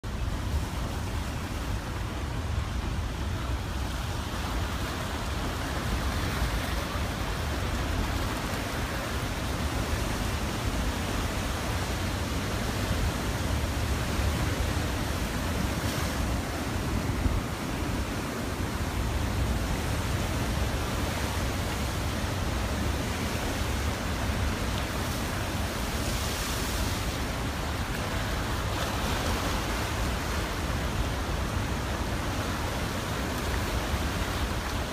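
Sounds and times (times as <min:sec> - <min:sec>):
wind rumble on microphone: 0:00.0 - 0:34.9.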